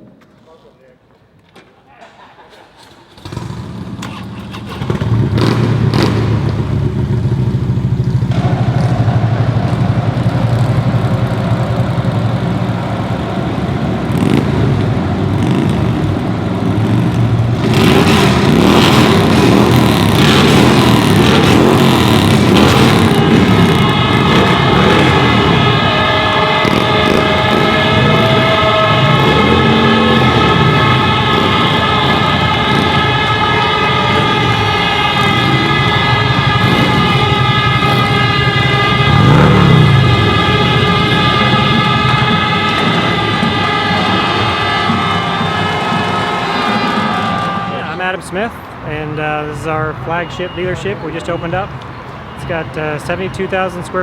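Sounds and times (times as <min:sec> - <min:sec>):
motorcycle engines revving: 0:02.4 - 0:54.0
air horns sounding: 0:03.2 - 0:54.0.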